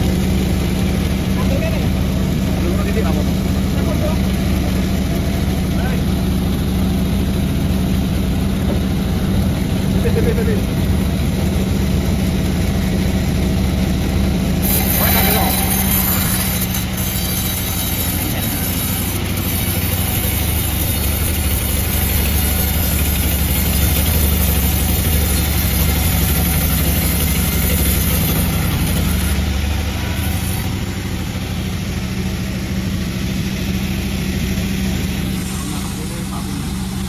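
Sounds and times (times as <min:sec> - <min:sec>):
chainsaw engine running: 0:00.0 - 0:37.0.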